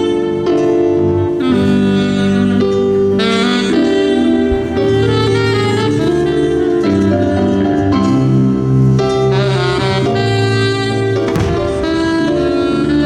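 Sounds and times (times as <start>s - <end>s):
jazz band playing: 0.0s - 13.0s.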